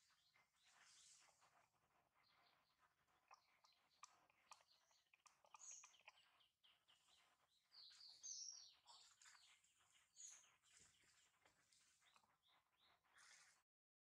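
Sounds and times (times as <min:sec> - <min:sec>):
faint bird chirps: 0:00.0 - 0:13.6.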